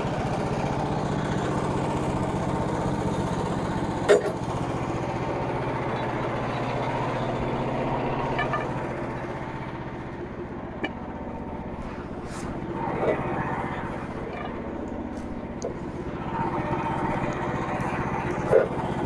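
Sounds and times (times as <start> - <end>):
sawmill engine running: 0.0 - 19.0.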